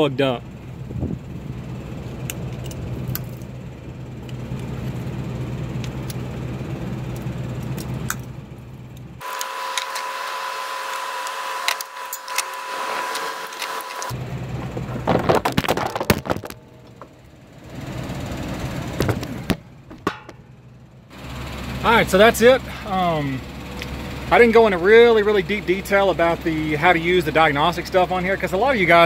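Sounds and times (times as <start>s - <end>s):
low hum: 0.3s - 26.5s.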